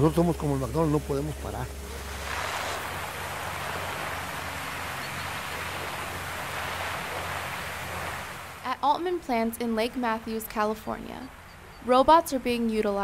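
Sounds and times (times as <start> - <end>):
low hum: 0.0 - 13.0
steady outdoor hiss: 0.0 - 13.0.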